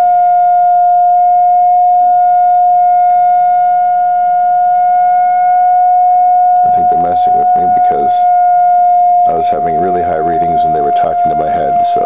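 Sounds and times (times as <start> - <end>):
steady whistle-like tone: 0.0 - 12.0.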